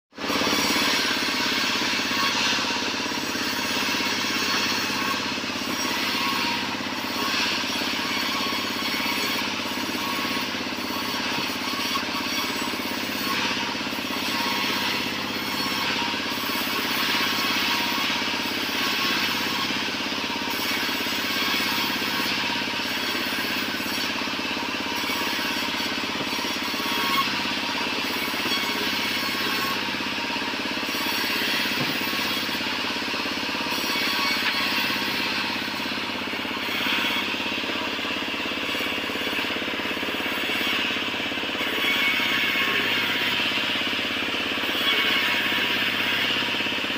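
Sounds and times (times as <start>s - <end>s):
band saw cutting wood: 0.1s - 46.9s.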